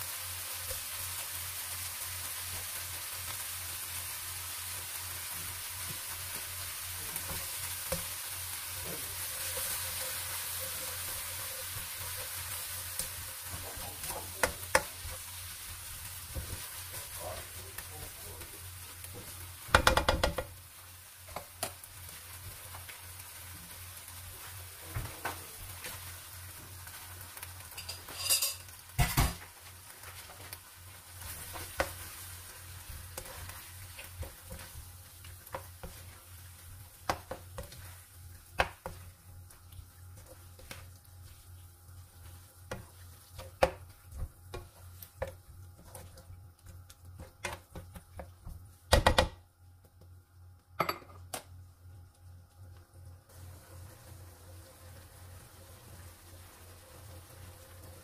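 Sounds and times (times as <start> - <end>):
food sizzling in a wok: 0.0 - 58.0.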